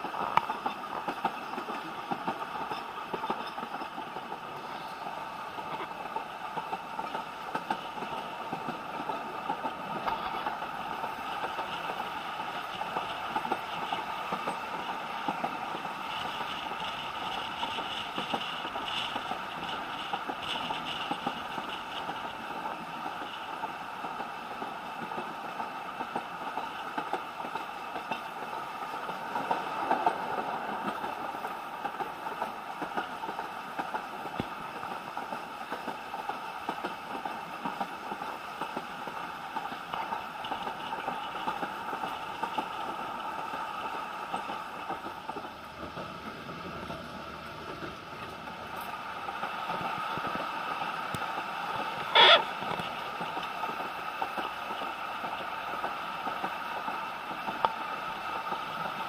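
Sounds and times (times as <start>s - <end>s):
train carriage rumbling and rattling: 0.0s - 59.0s.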